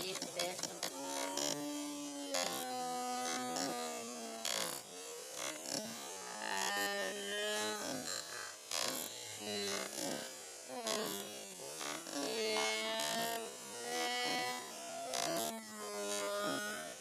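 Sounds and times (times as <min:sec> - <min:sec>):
miniature steam engine whirring: 0:00.0 - 0:17.0.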